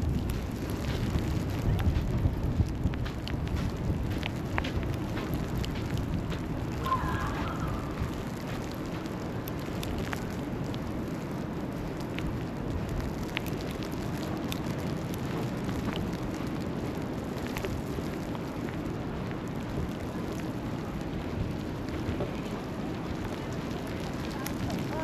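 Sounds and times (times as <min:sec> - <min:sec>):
city street rumble: 0:00.0 - 0:25.0.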